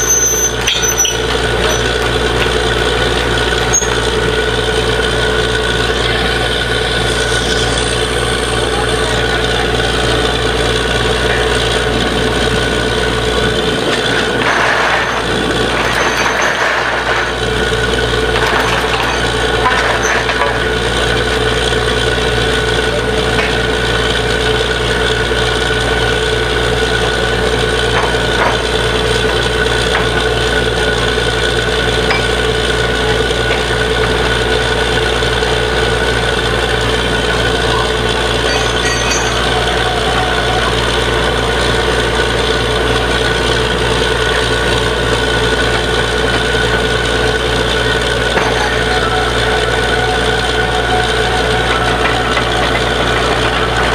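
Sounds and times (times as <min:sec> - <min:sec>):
drilling rig whining: 0:00.0 - 0:53.9.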